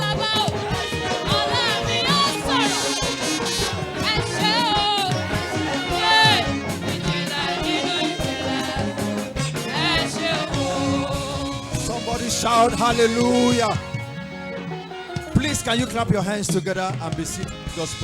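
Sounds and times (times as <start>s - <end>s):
upbeat praise music with singing: 0.0s - 18.0s.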